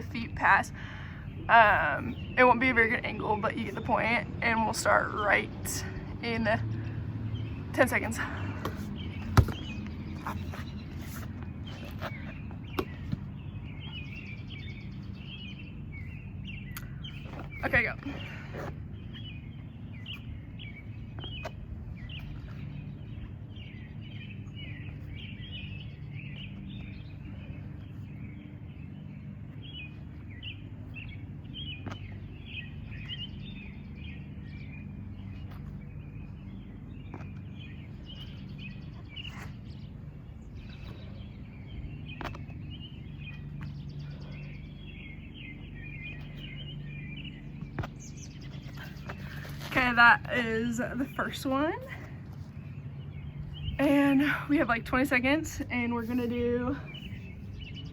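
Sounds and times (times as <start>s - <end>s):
small birds chirping: 0.0s - 57.9s
steady low hum: 0.0s - 57.9s.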